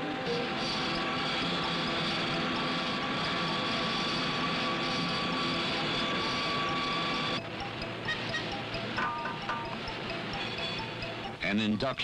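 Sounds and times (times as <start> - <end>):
milling machine whine: 0.0 - 11.4.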